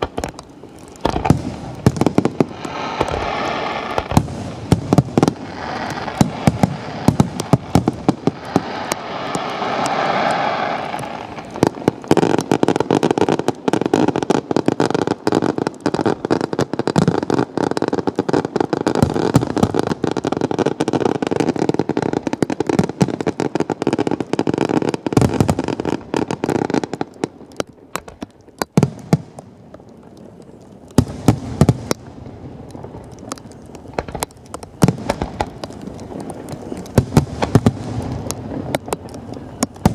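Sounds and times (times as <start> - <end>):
continuous crackle: 0.0 - 39.9
firecrackers popping and banging: 0.0 - 39.9.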